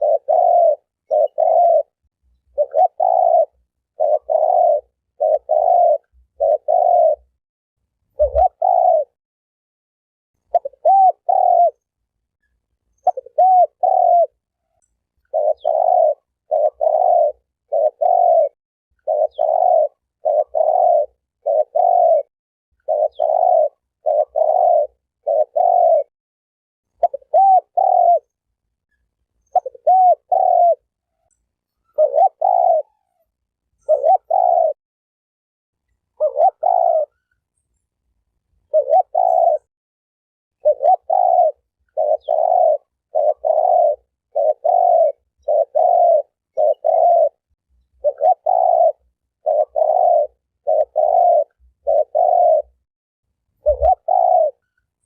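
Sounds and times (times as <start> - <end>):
dove cooing: 0.0 - 7.4, 8.1 - 9.2, 10.4 - 11.9, 12.9 - 26.1, 26.9 - 28.4, 29.4 - 34.8, 36.1 - 37.7, 38.6 - 39.7, 40.6 - 52.8, 53.6 - 54.8.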